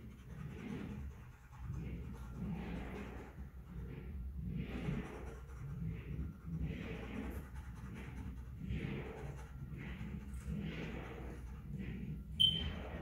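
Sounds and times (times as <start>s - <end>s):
dog panting: 0.0s - 13.0s
low steady hum: 0.0s - 13.0s.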